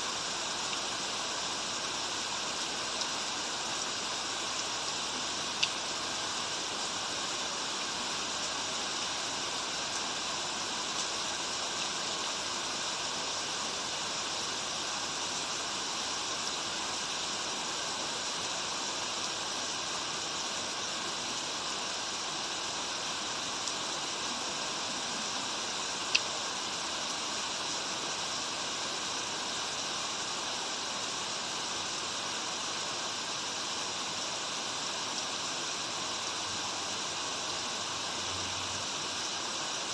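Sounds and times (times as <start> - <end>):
rain: 0.0 - 39.9
stream water running: 0.0 - 39.9.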